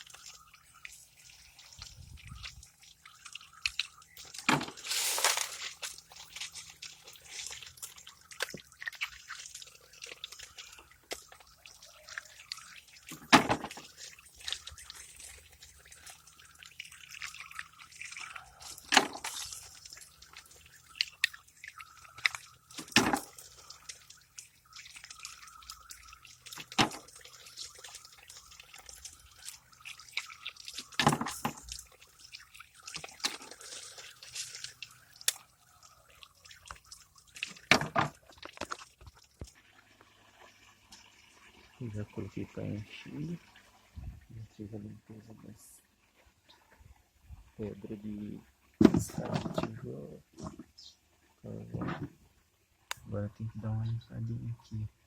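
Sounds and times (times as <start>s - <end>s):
water dripping and trickling: 0.0s - 55.0s.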